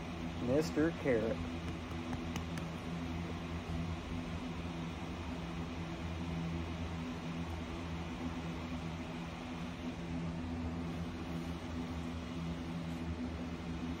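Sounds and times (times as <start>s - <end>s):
steady mechanical hum with hiss: 0.0s - 14.0s.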